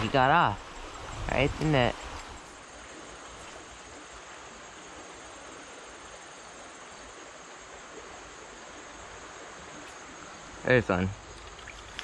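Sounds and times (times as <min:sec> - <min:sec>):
water flowing over rocks: 0:00.0 - 0:12.0.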